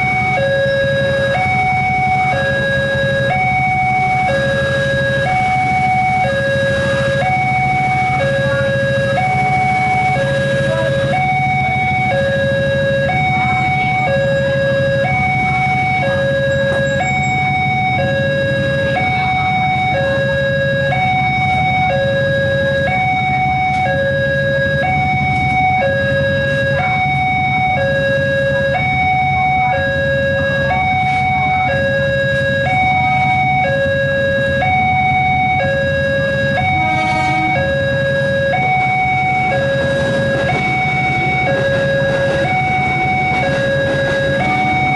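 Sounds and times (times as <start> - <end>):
idling motorcycles and traffic: 0.0 - 44.9
two-tone crossing alarm: 0.0 - 44.9.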